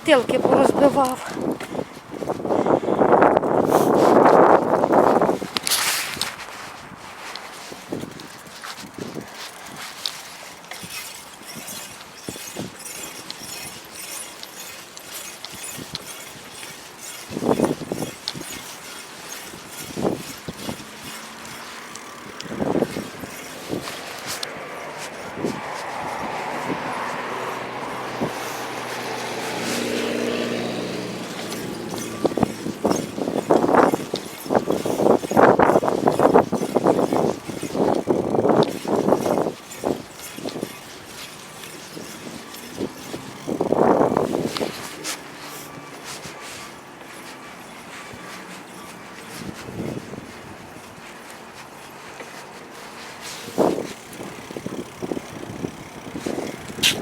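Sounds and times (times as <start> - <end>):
wind buffeting microphone: 0.0 - 52.1, 52.7 - 57.0
bicycle tyres rolling over glass: 3.5 - 57.0.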